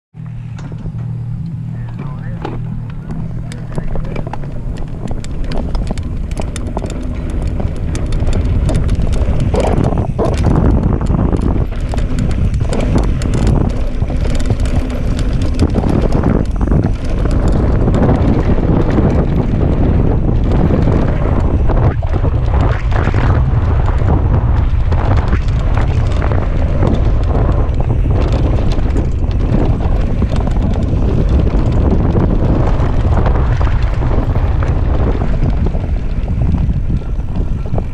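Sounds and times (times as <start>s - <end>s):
tyres on loose dirt: 0.2s - 37.9s
wind buffeting microphone: 0.3s - 37.9s
bike frame and chain rattling: 0.4s - 37.9s.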